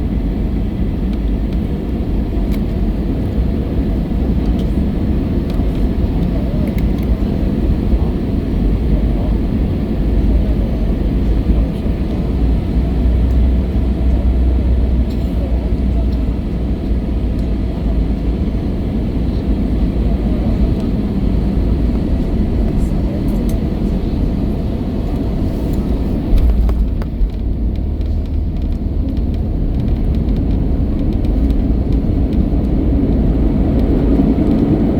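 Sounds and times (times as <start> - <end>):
airplane cabin low rumble: 0.0 - 34.9.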